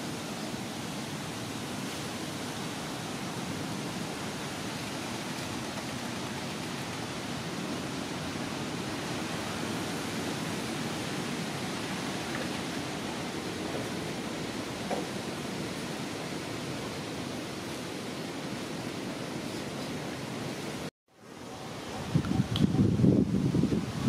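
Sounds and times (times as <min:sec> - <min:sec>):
steady hiss of noise: 0:00.0 - 0:24.0.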